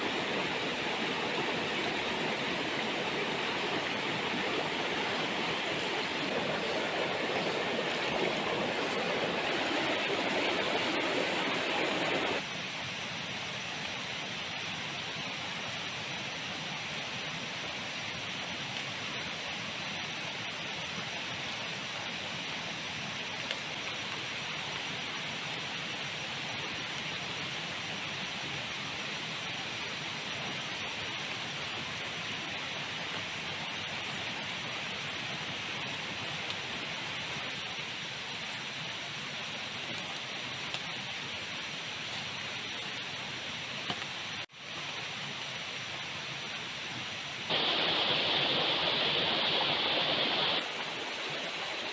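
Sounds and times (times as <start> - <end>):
heavy rain falling: 0.0 - 12.5, 16.8 - 51.9.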